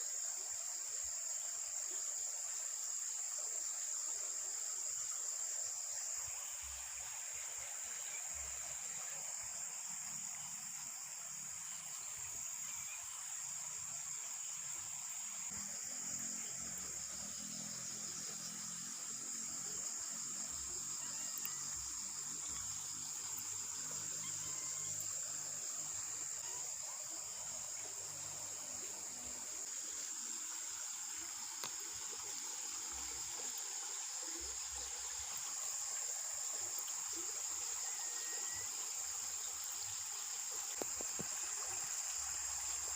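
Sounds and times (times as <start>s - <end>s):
background hiss: 0.0s - 42.9s
insects chirping: 0.0s - 42.9s.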